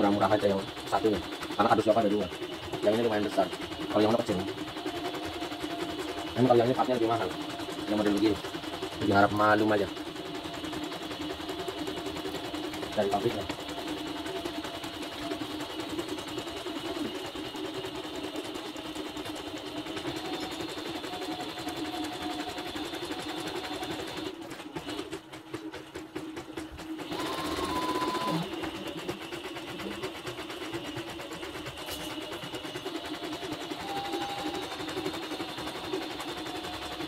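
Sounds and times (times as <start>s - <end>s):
embroidery machine stitching: 0.0s - 37.0s.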